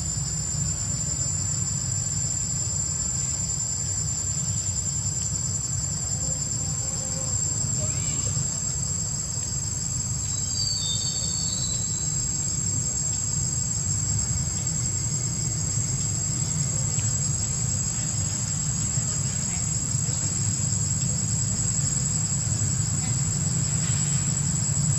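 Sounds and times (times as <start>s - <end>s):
insect chorus: 0.0s - 24.9s.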